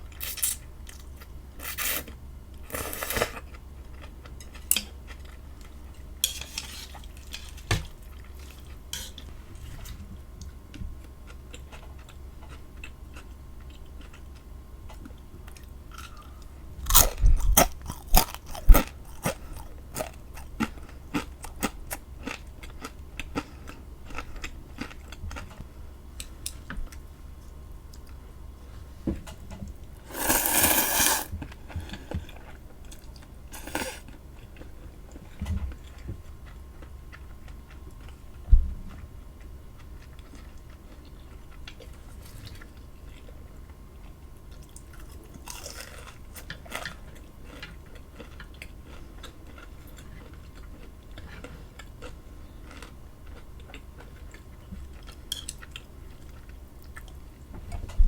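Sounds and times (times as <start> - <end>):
chewing and crunching food: 0.1 - 58.0.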